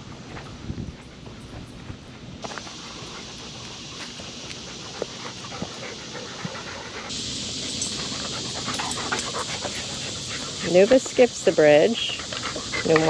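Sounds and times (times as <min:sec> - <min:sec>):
footsteps crunching on trail: 0:00.0 - 0:11.3
dogs panting: 0:00.1 - 0:13.0.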